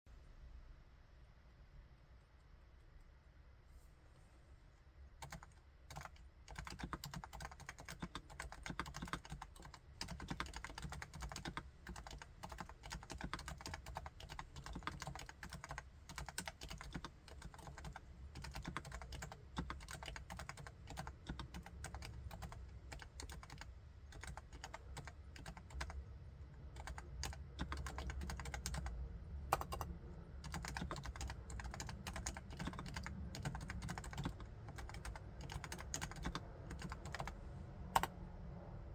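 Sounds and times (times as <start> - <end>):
quiet keyboard typing: 5.1 - 38.2.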